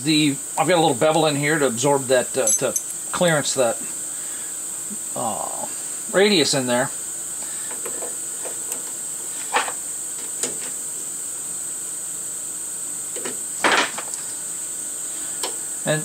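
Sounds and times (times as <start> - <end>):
steady high-pitched whine: 0.0 - 16.0.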